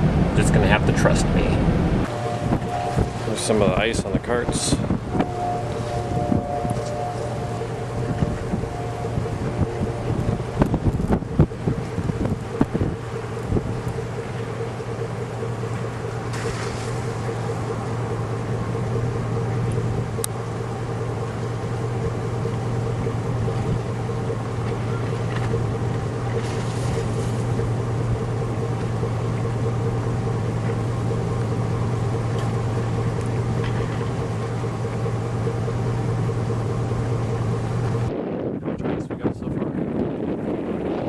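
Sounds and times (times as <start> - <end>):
car engine and tyre drone: 0.0 - 41.0.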